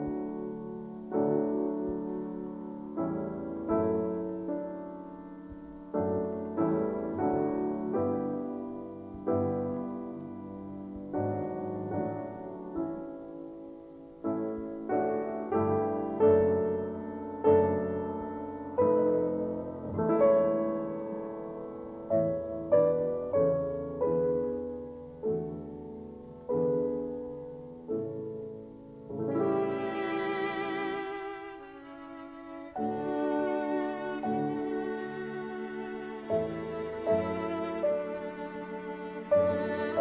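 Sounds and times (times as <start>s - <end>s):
violin: 0.0s - 13.6s, 14.2s - 27.5s, 29.1s - 40.0s
gentle solo piano: 0.0s - 40.0s.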